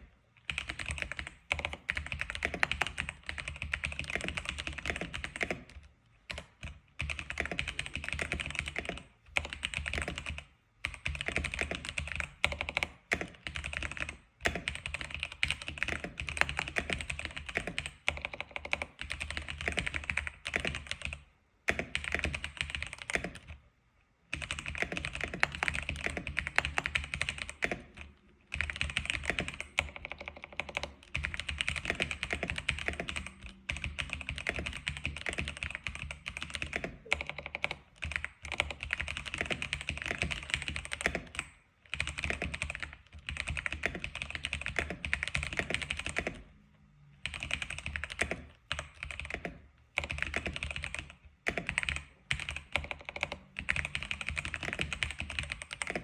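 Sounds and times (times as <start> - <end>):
keyboard typing: 0.0 - 23.6, 24.3 - 46.5, 47.2 - 56.0.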